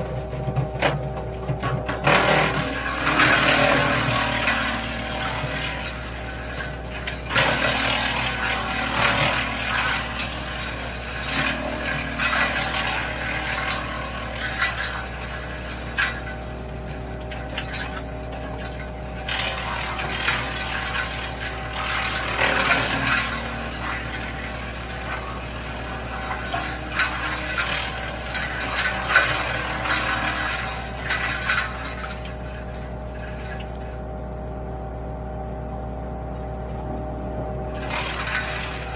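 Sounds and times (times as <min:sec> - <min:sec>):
wood chipper drive hum: 0:00.0 - 0:38.9
branches crackling in chipper: 0:02.0 - 0:34.0, 0:37.6 - 0:38.9.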